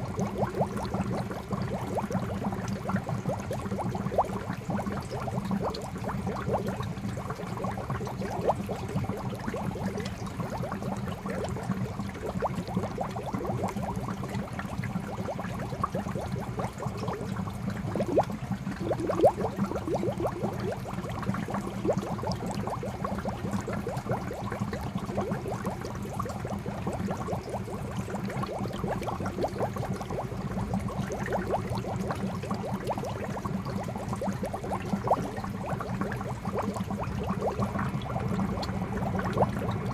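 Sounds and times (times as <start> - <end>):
low steady rumble: 0.0 - 39.9.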